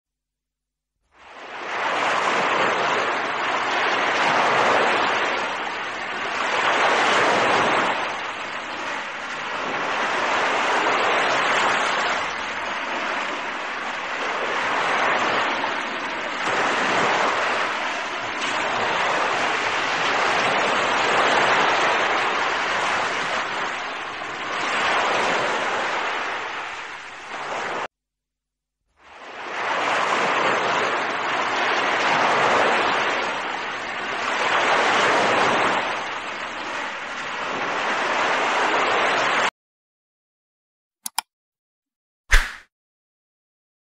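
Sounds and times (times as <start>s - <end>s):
waves washing over pebbles: 1.2s - 27.9s, 29.1s - 39.5s.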